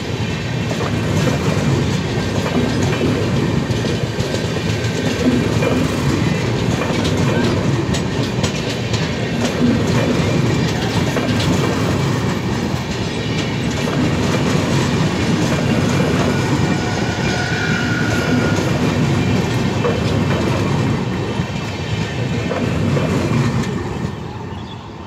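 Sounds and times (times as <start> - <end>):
clickety-clack over rail joints: 0.0 - 24.8
train wheels rumbling on track: 0.0 - 25.0.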